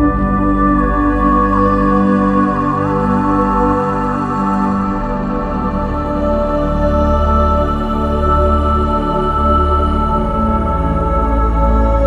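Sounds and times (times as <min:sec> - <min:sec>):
ambient music with held chords: 0:00.0 - 0:12.0.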